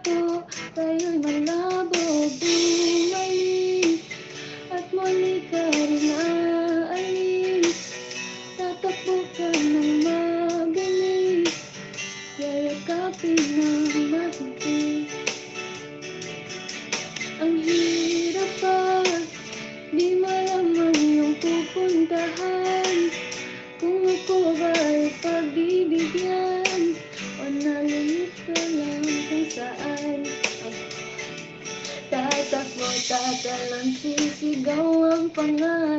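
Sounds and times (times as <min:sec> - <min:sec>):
woman singing into microphone: 0:00.0 - 0:11.7, 0:12.4 - 0:15.3, 0:17.3 - 0:30.9, 0:31.8 - 0:35.9
strummed guitar: 0:00.0 - 0:35.9.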